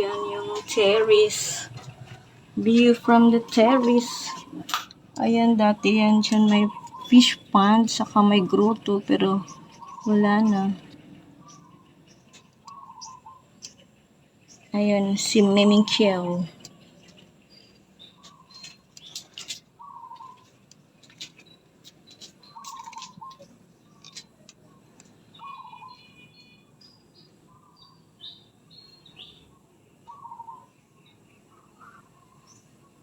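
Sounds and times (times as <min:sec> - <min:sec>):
high bird chirps: 0:00.0 - 0:20.5, 0:21.4 - 0:29.5.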